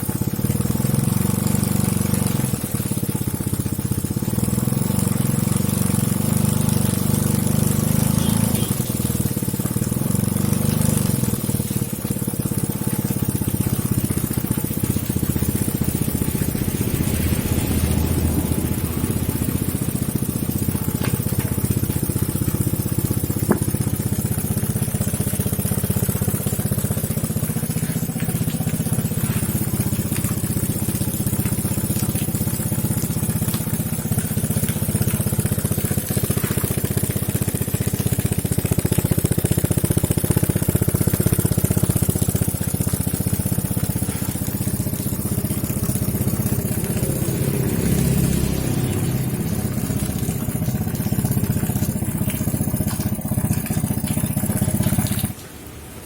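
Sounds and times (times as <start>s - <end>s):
small engine running: 0.0s - 55.4s.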